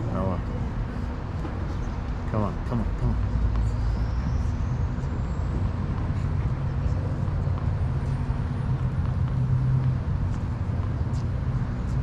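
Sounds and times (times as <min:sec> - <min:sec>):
low background hum and rumble: 0:00.0 - 0:12.0.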